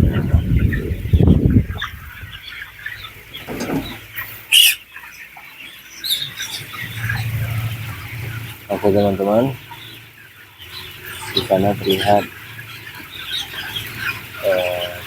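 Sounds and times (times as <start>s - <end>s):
chickens chirping and clucking: 0.0s - 15.0s.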